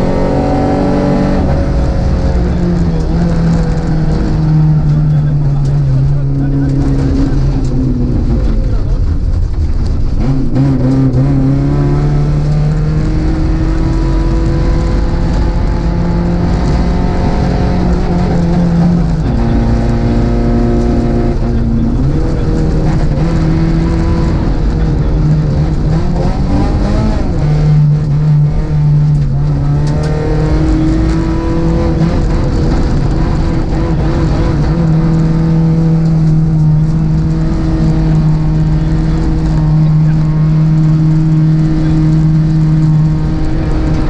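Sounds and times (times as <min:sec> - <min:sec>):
rally car engine revving: 0:00.0 - 0:44.0
tyres rumbling on gravel: 0:01.4 - 0:44.0.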